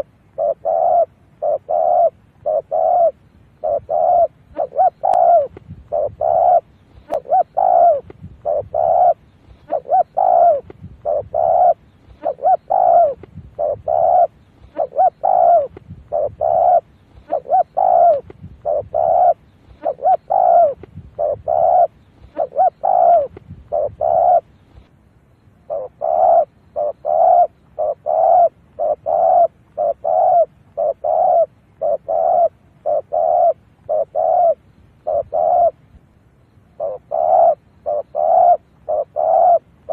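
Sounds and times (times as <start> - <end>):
dove cooing: 0.0 - 24.9, 25.7 - 35.8, 36.7 - 39.9.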